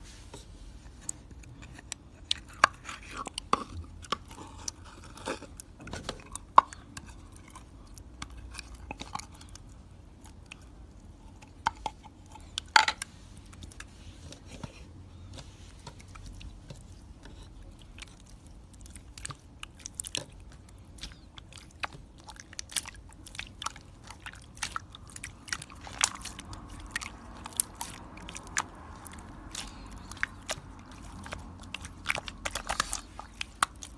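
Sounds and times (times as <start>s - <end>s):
chewing and crunching: 0.8s - 33.9s.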